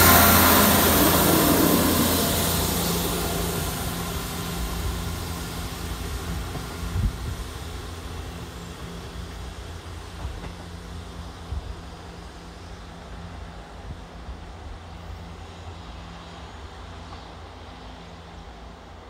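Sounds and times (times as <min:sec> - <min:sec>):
diesel train engine humming: 0:00.0 - 0:19.0.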